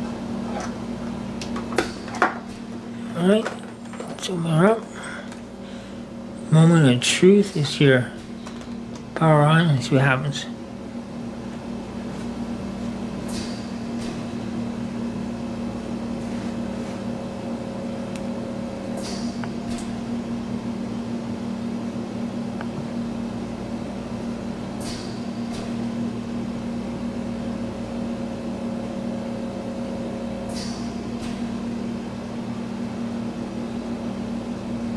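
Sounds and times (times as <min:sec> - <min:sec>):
laptop cooling fan hum: 0:00.0 - 0:34.9.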